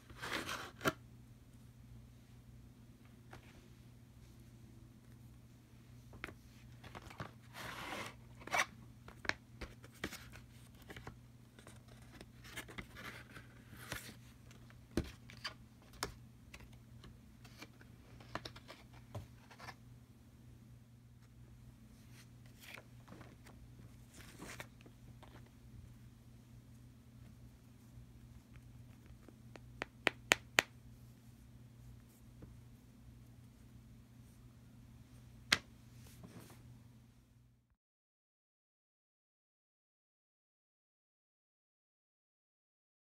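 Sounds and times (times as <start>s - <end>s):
faint low hum: 0.0s - 37.8s.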